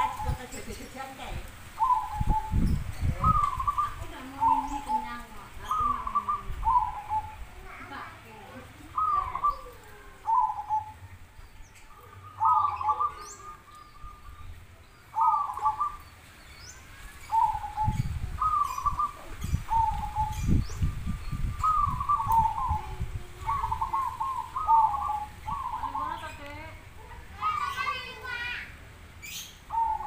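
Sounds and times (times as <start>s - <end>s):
doves cooing: 0.0s - 28.4s, 29.2s - 30.0s.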